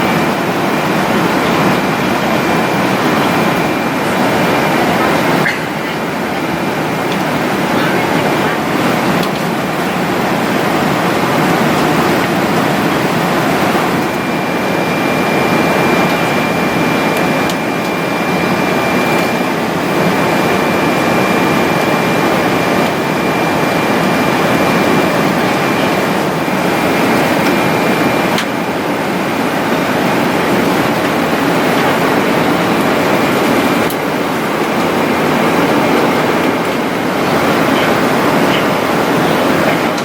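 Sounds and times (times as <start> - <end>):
airliner cabin engine rush: 0.0 - 40.0.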